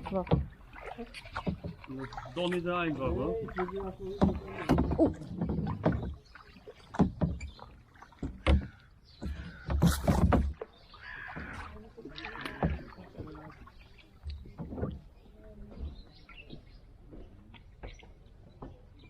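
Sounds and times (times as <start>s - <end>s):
kayak paddles splashing in water: 0.0s - 19.0s.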